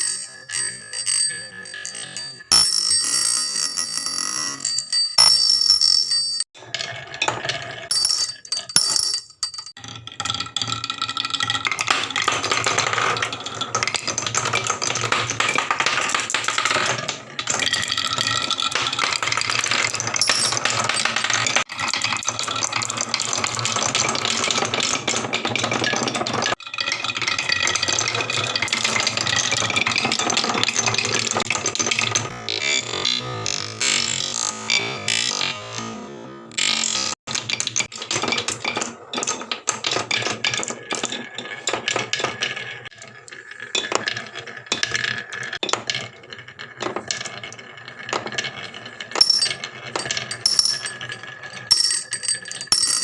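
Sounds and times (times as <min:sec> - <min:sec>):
marbles clattering down wooden run: 0:00.0 - 0:06.4, 0:07.0 - 0:32.3, 0:37.3 - 0:53.0.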